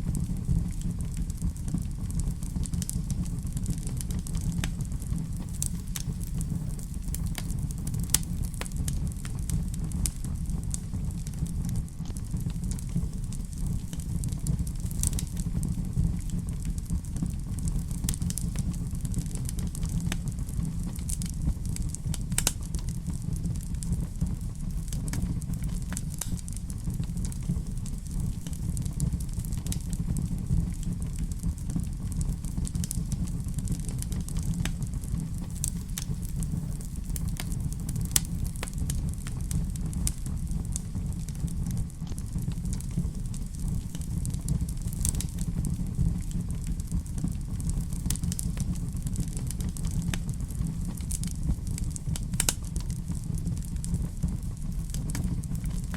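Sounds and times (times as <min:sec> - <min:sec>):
low rumble of fire: 0:00.0 - 0:55.9
wood fire crackling and popping: 0:00.0 - 0:55.9.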